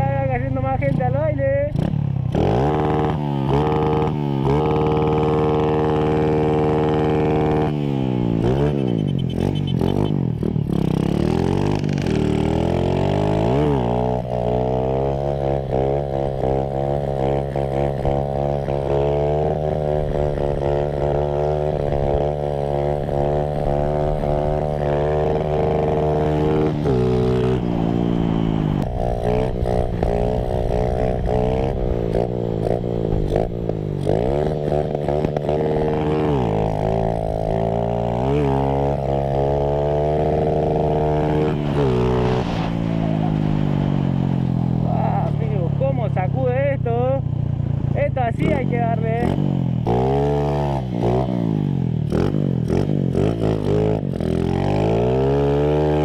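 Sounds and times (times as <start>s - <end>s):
small motorcycle engine revving: 0.8s - 56.0s.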